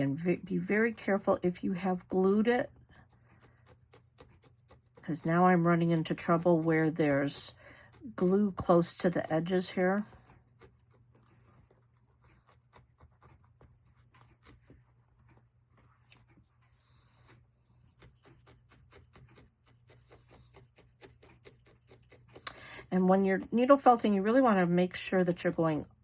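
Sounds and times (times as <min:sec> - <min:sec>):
felting needle poking into foam: 0:00.6 - 0:15.4, 0:17.2 - 0:26.0.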